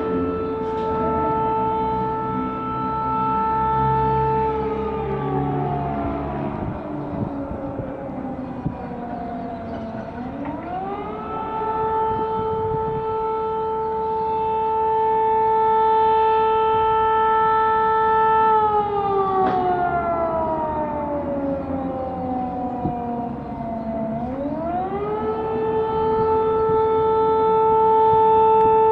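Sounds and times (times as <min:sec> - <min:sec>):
civil defense siren wailing: 0:00.0 - 0:28.9.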